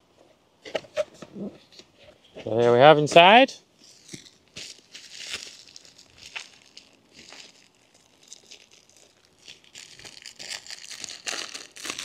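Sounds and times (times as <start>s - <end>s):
paper rustling and crinkling: 0.9s - 12.0s.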